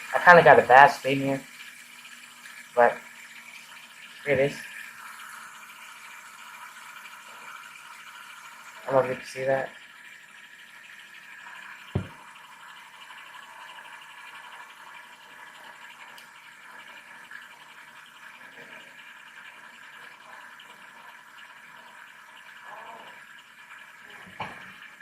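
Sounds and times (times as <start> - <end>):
fidget spinner whirring: 0.0 - 25.0.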